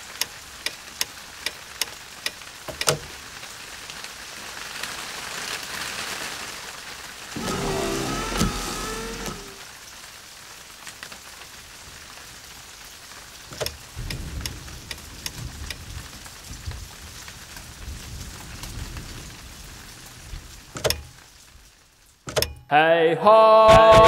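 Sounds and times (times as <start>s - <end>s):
rain hiss: 0.0s - 22.3s.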